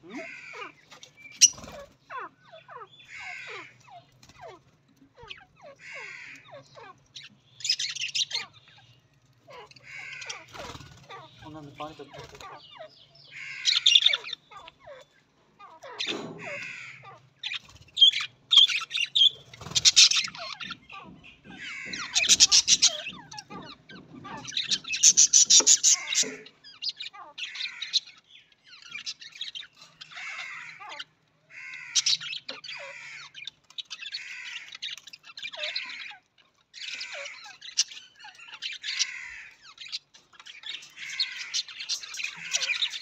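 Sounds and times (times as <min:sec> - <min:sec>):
budgerigars chattering: 0:00.0 - 0:43.0.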